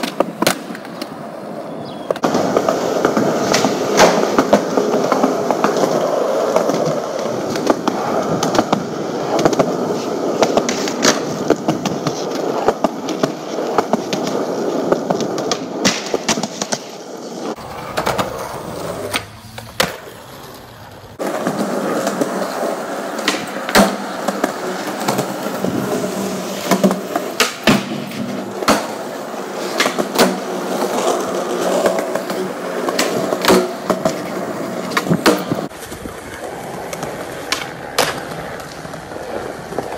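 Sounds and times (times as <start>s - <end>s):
skateboard clacking: 0.0s - 39.9s
skateboard wheels rolling on concrete: 0.0s - 39.9s.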